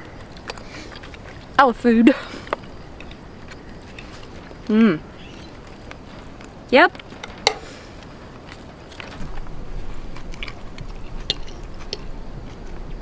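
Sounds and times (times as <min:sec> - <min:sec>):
faint chewing: 0:00.0 - 0:13.0.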